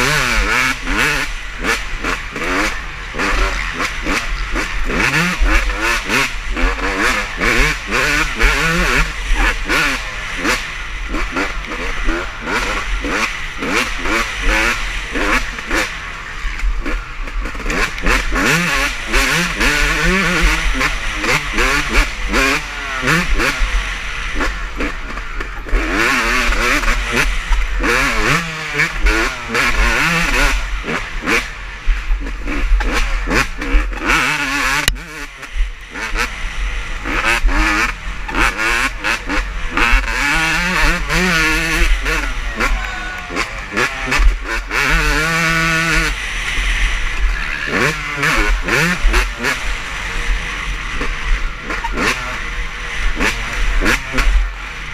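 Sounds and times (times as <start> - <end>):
motocross bike engines revving: 0.0 - 54.9.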